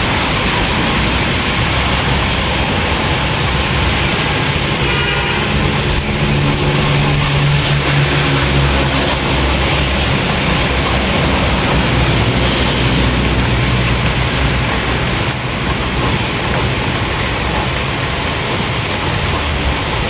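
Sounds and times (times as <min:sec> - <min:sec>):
heavy rain: 0:00.0 - 0:20.0
vehicle engine hum: 0:00.0 - 0:20.0.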